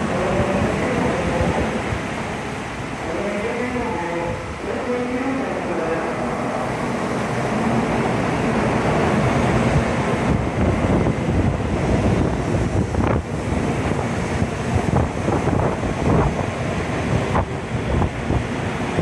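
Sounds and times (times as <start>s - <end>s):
strong wind buffeting microphone: 0.0s - 3.0s, 6.6s - 19.0s.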